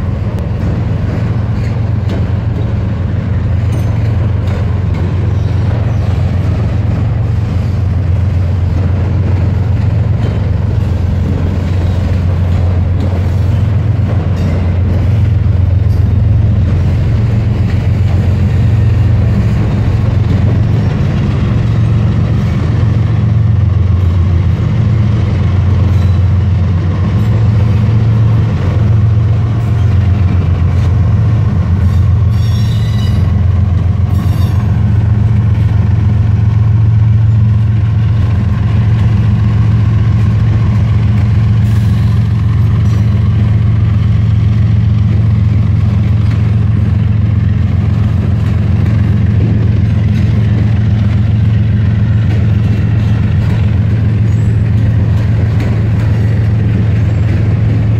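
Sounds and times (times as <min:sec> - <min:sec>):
diesel locomotive passing: 0:00.0 - 0:57.9
freight train rolling past: 0:00.0 - 0:57.9
train cars clattering: 0:00.0 - 0:57.9.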